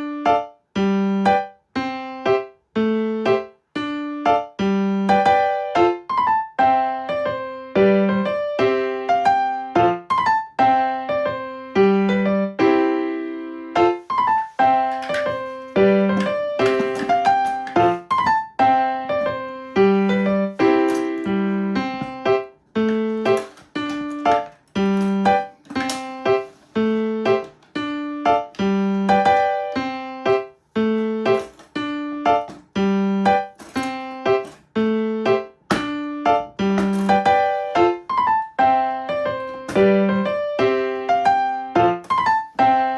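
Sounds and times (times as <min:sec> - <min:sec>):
piano tune: 0:00.0 - 0:42.9.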